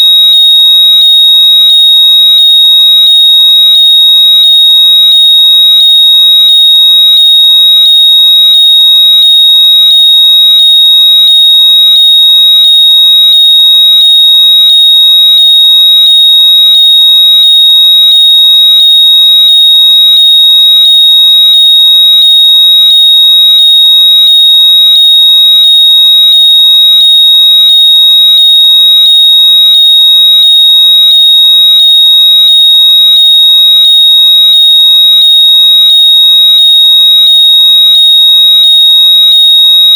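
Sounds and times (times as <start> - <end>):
high-pitched electronic tone: 0.0 - 39.9.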